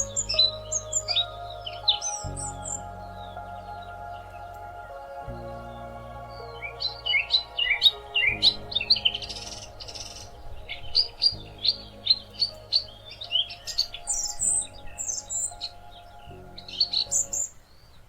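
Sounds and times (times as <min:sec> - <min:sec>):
soft ambient music: 0:00.0 - 0:18.0
songbirds chirping: 0:00.0 - 0:18.0.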